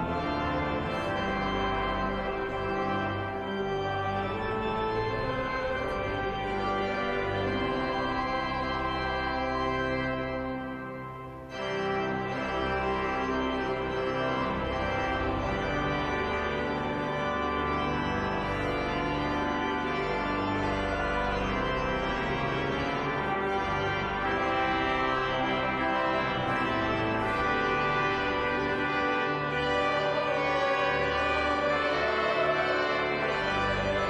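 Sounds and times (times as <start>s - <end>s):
organ chords: 0.0s - 34.0s.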